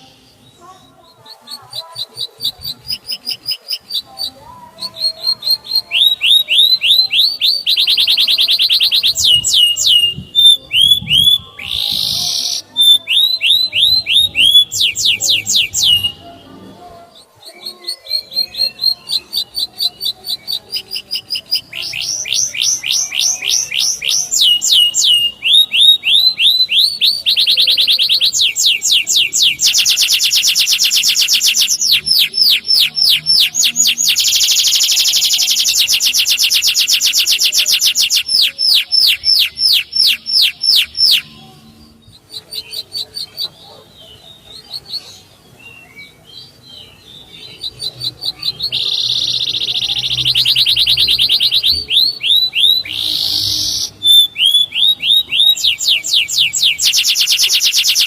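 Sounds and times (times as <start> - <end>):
canary singing whistles and trills: 0.0 - 58.0.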